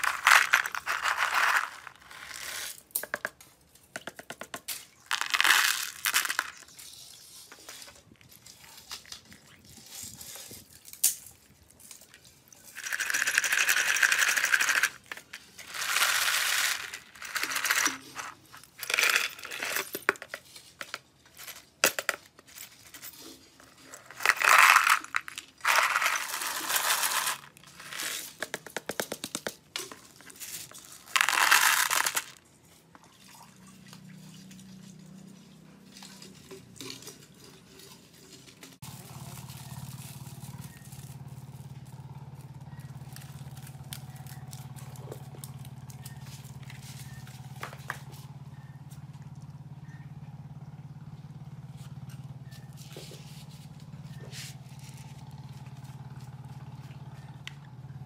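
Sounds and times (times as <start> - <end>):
metal parts rattling in plastic tubs: 0.0 - 33.0, 33.8 - 48.3.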